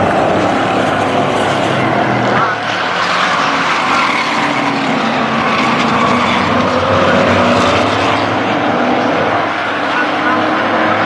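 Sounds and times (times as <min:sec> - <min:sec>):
race truck engines: 0:00.0 - 0:11.0.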